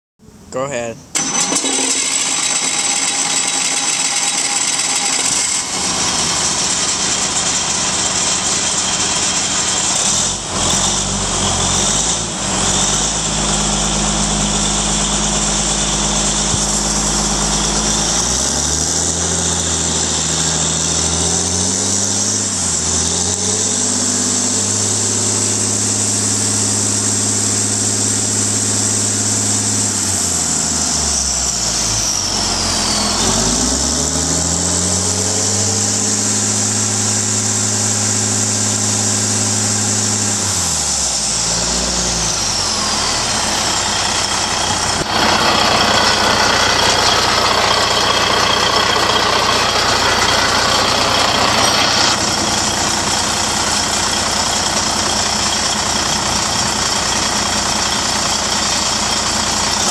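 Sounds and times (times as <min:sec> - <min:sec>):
diesel engine running: 0:01.1 - 0:59.9.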